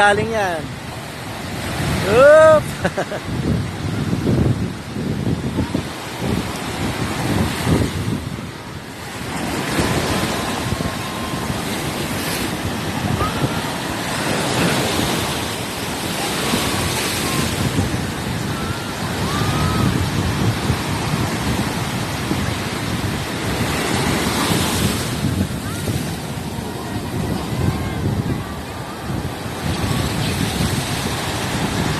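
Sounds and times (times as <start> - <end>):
ocean surf breaking: 0.0 - 31.9
wind buffeting microphone: 0.0 - 31.9.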